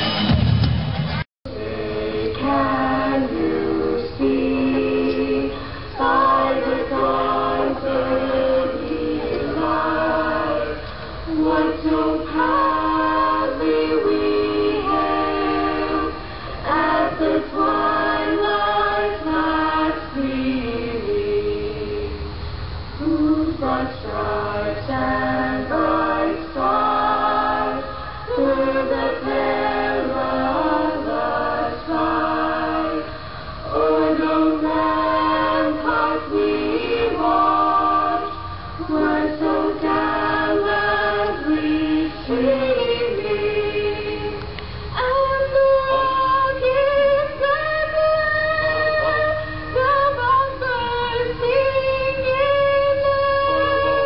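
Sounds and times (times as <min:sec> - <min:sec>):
vocal quartet singing in harmony: 0:01.5 - 0:54.0.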